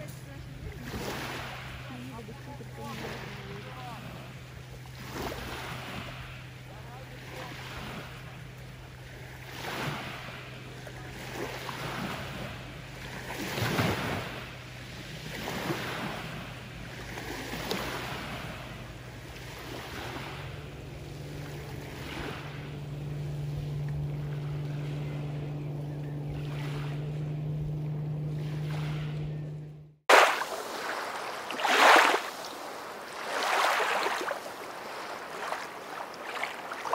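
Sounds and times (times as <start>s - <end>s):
motorboat engine drone: 0.0s - 36.9s
small waves washing on shore: 0.0s - 36.9s.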